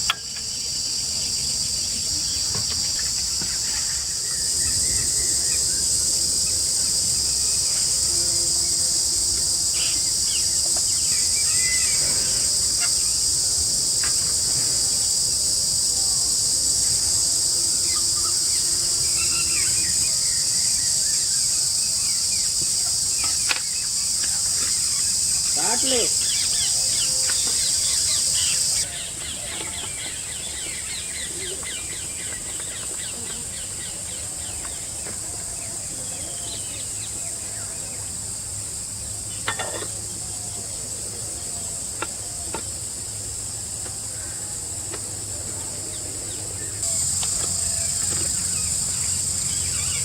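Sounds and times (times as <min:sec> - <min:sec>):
insect chorus: 0:00.0 - 0:50.0.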